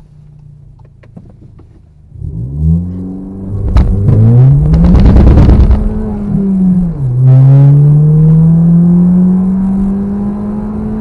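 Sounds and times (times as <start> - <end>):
car engine revving and accelerating: 2.1 - 11.0.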